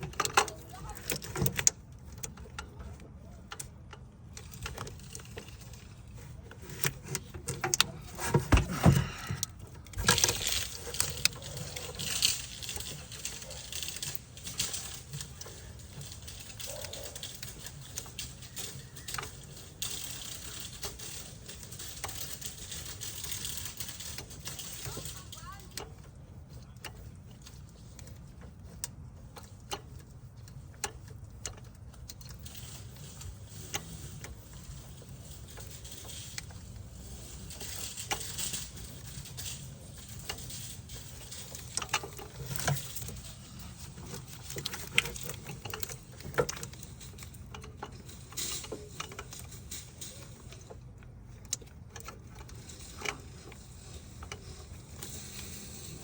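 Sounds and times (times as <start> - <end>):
hand tools clicking and knocking: 0.0 - 56.0
steady low hum: 0.0 - 56.0.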